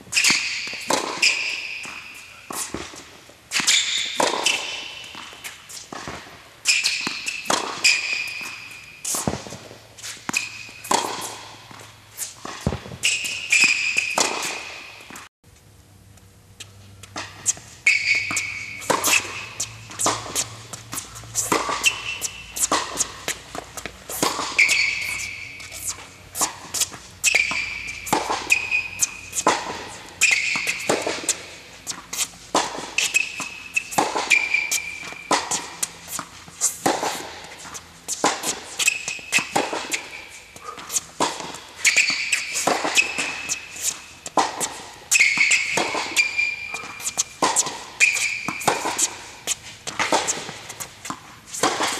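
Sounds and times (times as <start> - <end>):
tennis ball bouncing: 0.0 - 15.3, 16.2 - 51.9
shoe squeaks on court: 0.1 - 11.5, 12.2 - 15.3, 17.0 - 51.9
tennis racket striking ball: 0.1 - 15.3, 17.0 - 51.9.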